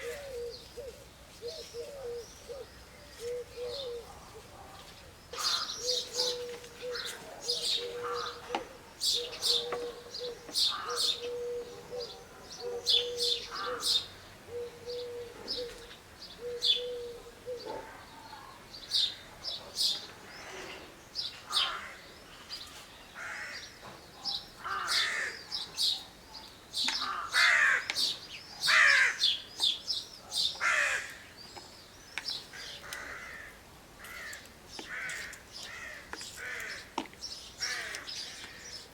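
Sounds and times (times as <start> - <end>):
birds chirping: 0.0 - 38.9
harsh bird calls: 4.8 - 17.8, 18.7 - 26.0, 26.7 - 38.9.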